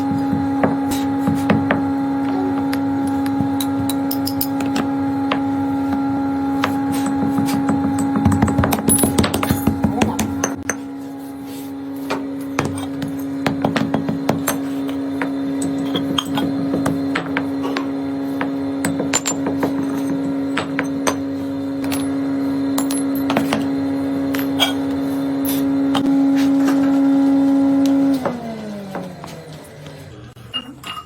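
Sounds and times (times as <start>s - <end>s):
humming drone: 0.0s - 30.7s.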